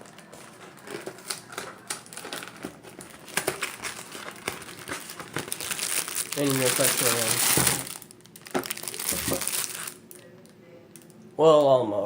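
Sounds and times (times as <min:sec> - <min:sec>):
packaging crinkling and rustling: 0:00.0 - 0:11.1.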